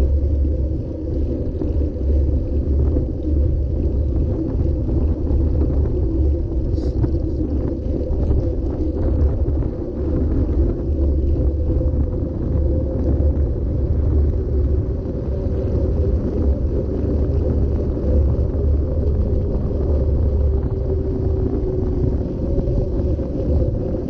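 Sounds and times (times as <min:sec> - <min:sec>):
bicycle road noise on asphalt: 0:00.0 - 0:24.0
wind rumble on microphone: 0:00.0 - 0:24.0.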